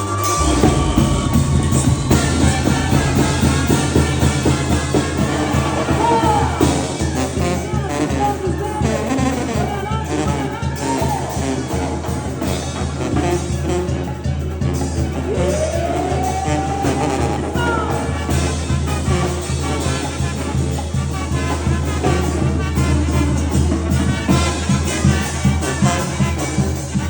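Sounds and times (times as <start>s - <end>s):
banda music with singing: 0.0s - 27.0s.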